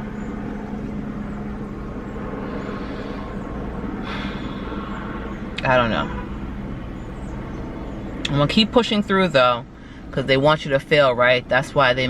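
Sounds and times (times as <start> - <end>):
vehicle running rumble: 0.0 - 12.0.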